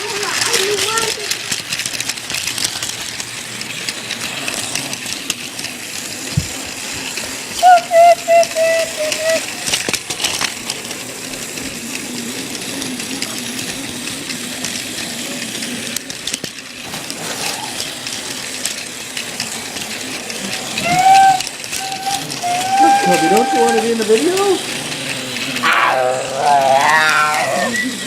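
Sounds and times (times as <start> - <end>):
toy train motor whirring: 0.0 - 28.0.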